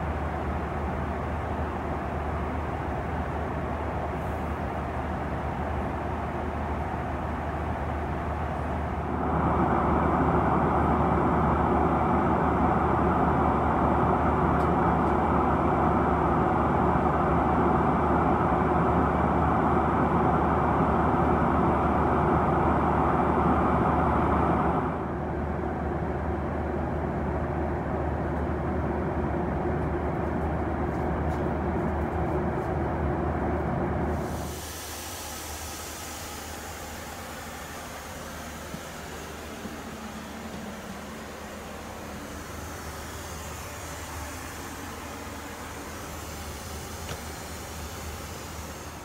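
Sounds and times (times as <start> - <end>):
airplane cabin engine rush: 0.0 - 49.0.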